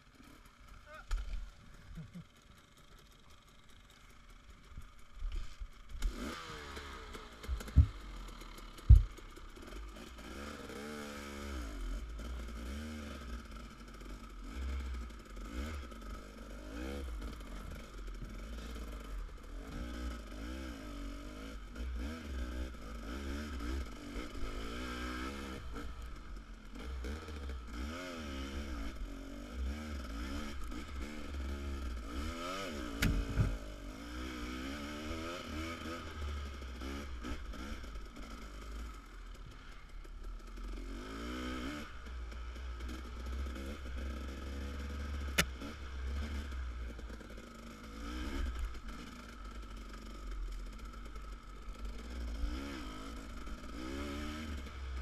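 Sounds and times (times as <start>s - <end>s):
dirt bike engine revving: 6.0s - 39.0s, 40.5s - 42.1s, 42.8s - 55.0s.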